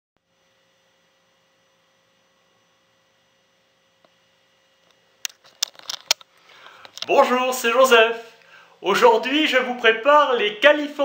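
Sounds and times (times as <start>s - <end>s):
faint electrical hum: 0.2s - 11.0s.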